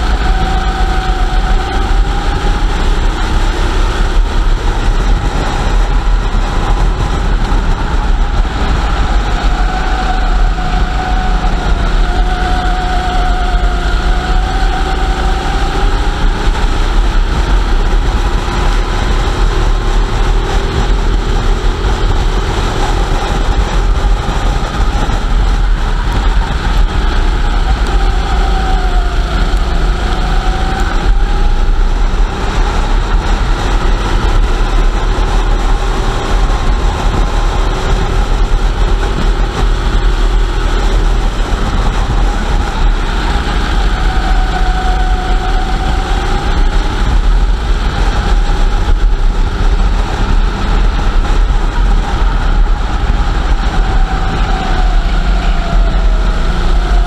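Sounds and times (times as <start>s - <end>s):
heavy low rumble: 0.0s - 57.0s
kart engine revving: 0.0s - 57.0s.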